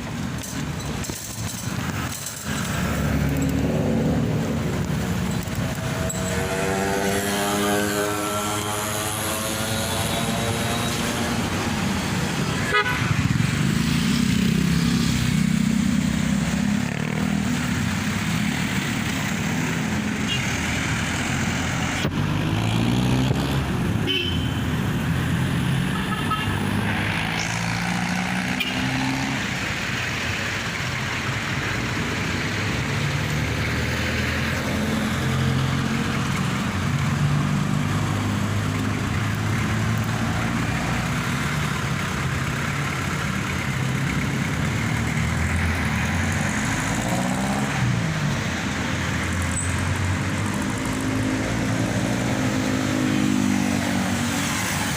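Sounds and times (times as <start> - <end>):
road traffic noise: 0.0 - 54.9
vehicle engine humming: 0.0 - 54.9.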